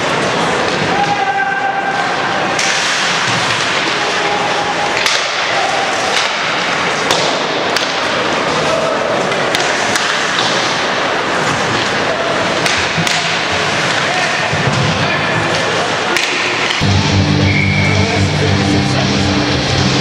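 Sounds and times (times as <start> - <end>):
hockey sticks and puck clacking: 0.0 - 16.9
noisy rink din: 0.0 - 20.0.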